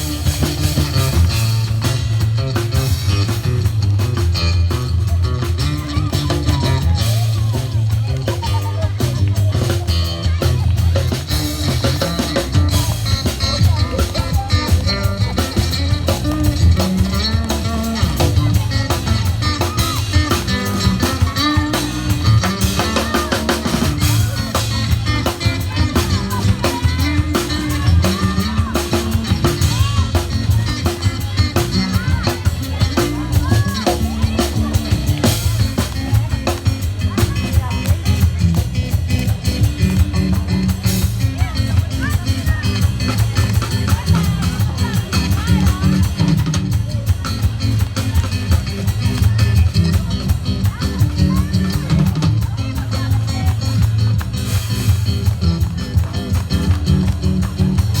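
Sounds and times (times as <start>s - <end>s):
drums steady beat: 0.0s - 58.0s
heavy bass and guitar: 0.0s - 58.0s.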